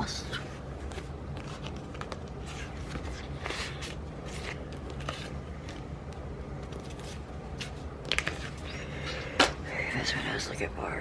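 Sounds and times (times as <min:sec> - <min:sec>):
low room hum: 0:00.0 - 0:11.0
paper rustling: 0:00.3 - 0:09.1.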